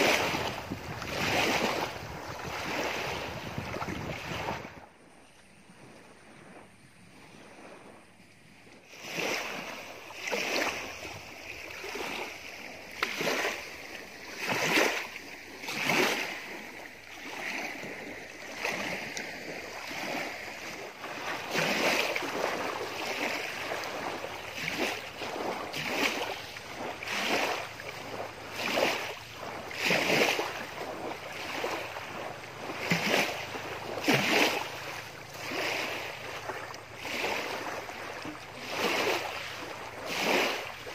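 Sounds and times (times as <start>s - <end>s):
waves splashing on gravel shore: 0.0s - 4.8s, 8.9s - 40.9s.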